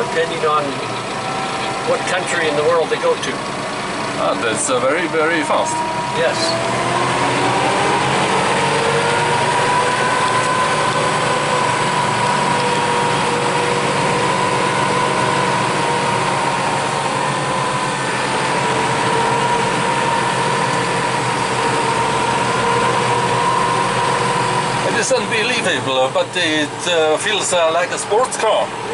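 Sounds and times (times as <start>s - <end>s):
tractor engine with high whine: 0.0s - 28.9s.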